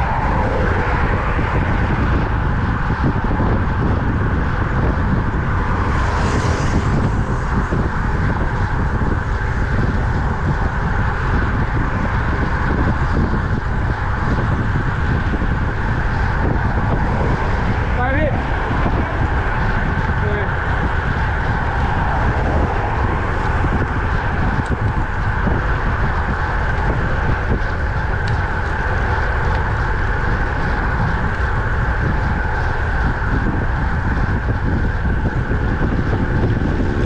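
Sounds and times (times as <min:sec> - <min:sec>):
road noise hum: 0:00.0 - 0:37.0
wind buffeting microphone: 0:00.0 - 0:37.0.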